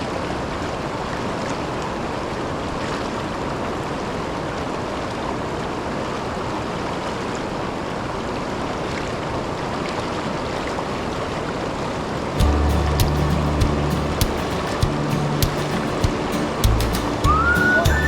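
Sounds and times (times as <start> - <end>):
water rushing over waterfall: 0.0 - 18.0.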